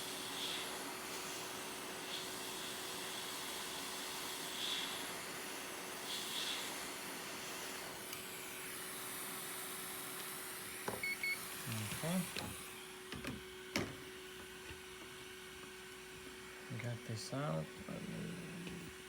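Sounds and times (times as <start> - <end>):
hot air blower hissing: 0.0 - 19.0.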